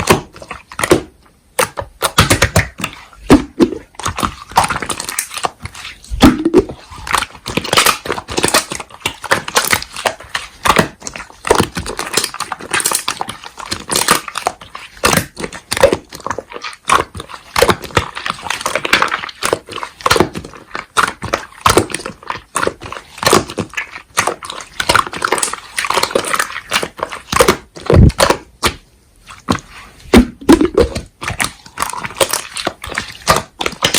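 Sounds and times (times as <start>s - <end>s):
slime squished by hand: 0.0s - 33.9s.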